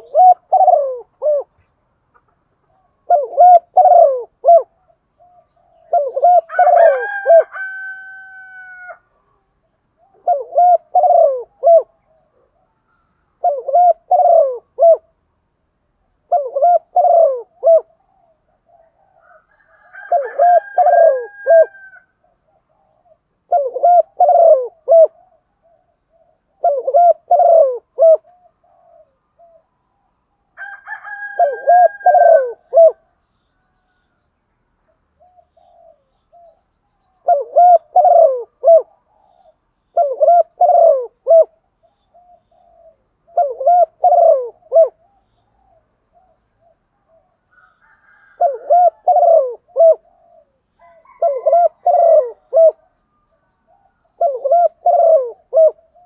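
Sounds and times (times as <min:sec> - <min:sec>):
dove cooing: 0:00.0 - 0:15.2, 0:16.1 - 0:29.8, 0:30.6 - 0:33.2, 0:35.2 - 0:56.0.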